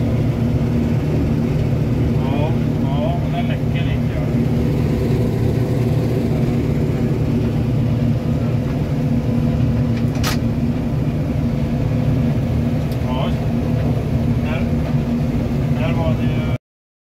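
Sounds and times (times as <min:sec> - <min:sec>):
combine harvester engine drone: 0:00.0 - 0:16.6.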